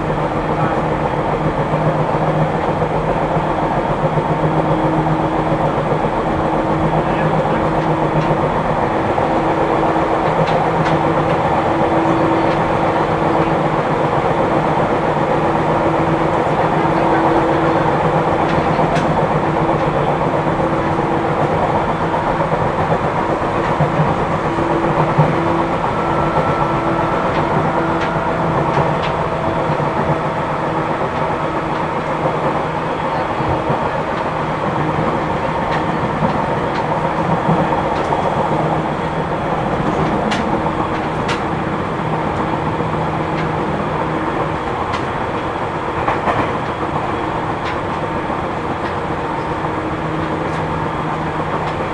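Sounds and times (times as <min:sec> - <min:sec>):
train wheels rumbling on rail: 0:00.0 - 0:51.9
rail-joint clicks: 0:00.1 - 0:51.9.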